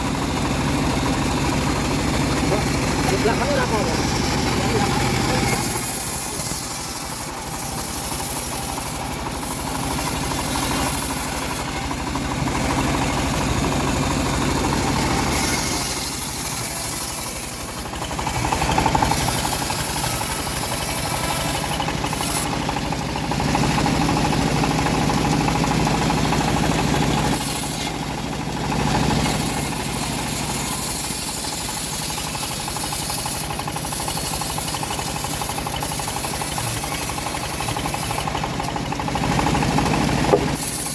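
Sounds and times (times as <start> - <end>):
bandsaw sawing through log: 0.0 - 40.9.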